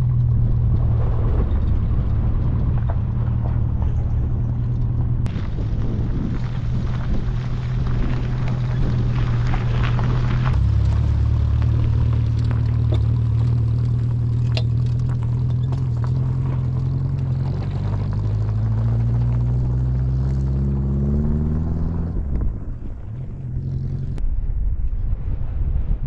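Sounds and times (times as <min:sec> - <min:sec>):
car engine humming: 0:00.0 - 0:24.2.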